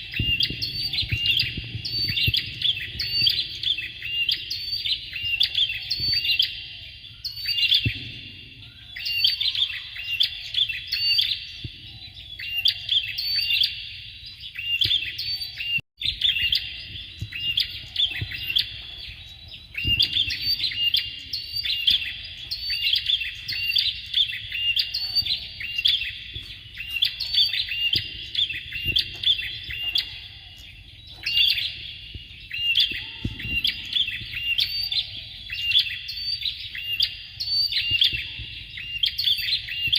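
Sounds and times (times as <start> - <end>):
prinia singing: 0.0 - 39.9.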